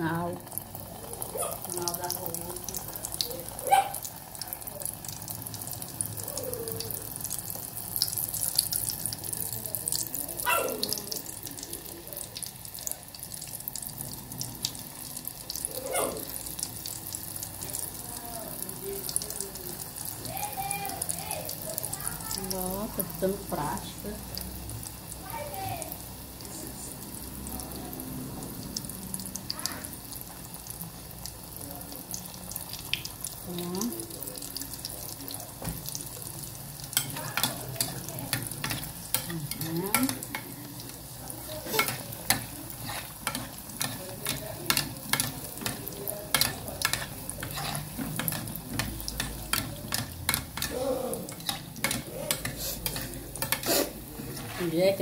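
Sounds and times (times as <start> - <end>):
batter sizzling in hot oil: 0.0 - 55.0.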